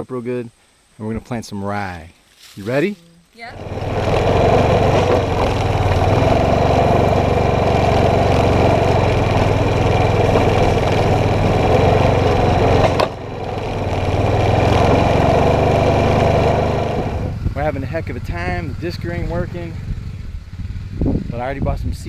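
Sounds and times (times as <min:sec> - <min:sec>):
atv engine running: 0:02.6 - 0:22.0.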